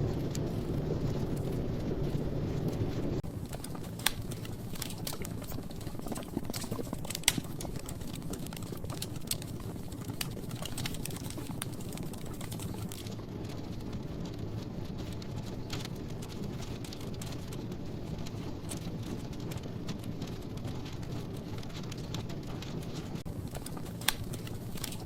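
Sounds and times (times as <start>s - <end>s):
fireplace logs crackling: 0.0s - 25.0s.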